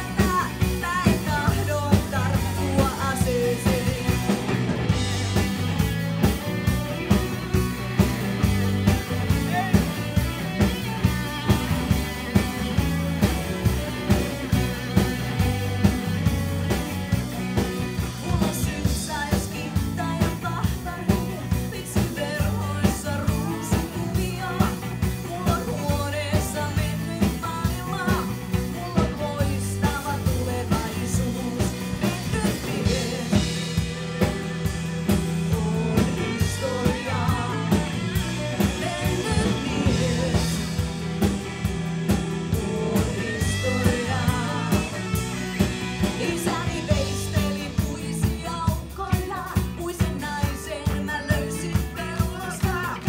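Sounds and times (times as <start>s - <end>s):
drum kit beat: 0.0s - 53.0s
rock band playing: 0.0s - 53.0s.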